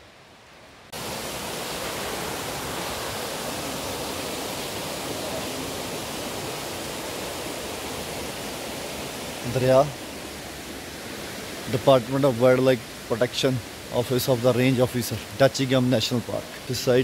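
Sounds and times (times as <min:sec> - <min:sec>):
water rushing through sluice: 0:00.9 - 0:17.0.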